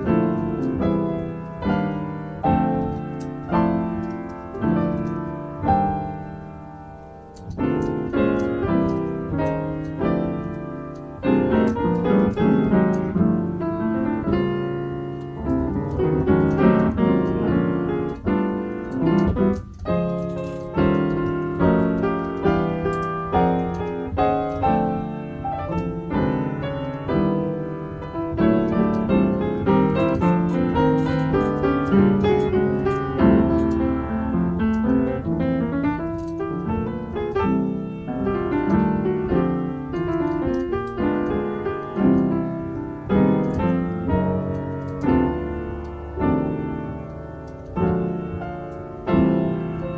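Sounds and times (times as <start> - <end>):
solo piano improvising: 0.0 - 49.9.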